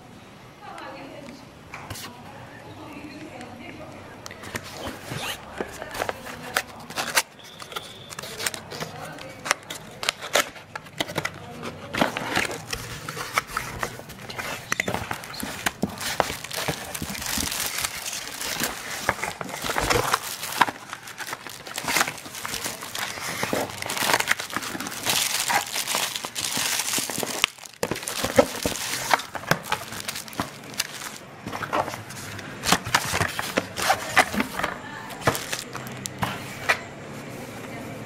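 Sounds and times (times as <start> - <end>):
plastic bag crinkling: 4.4 - 36.2.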